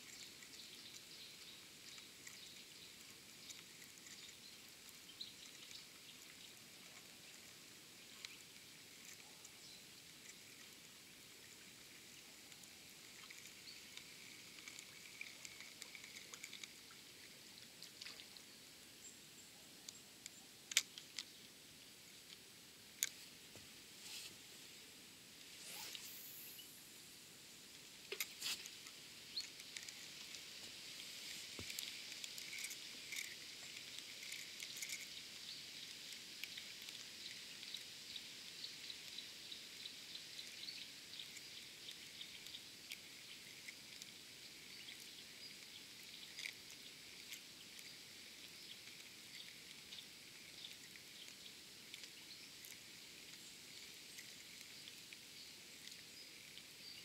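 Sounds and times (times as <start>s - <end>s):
high-pitched hiss with ticks and chirps: 0.0s - 57.0s.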